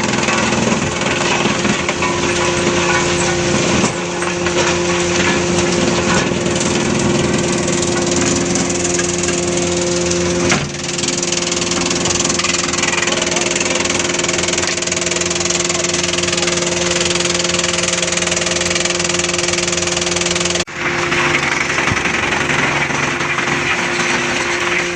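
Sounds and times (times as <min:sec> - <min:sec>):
machine mechanical hum: 0:00.0 - 0:24.9
wood rattling and grinding: 0:00.0 - 0:24.9.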